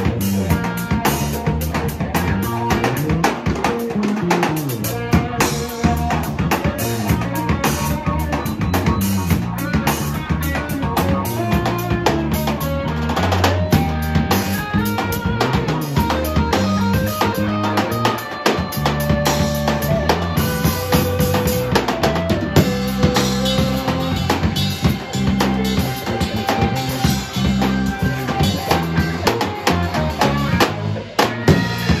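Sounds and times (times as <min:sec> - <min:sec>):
drum kit groove: 0:00.0 - 0:32.0
electric guitar lines: 0:00.0 - 0:32.0.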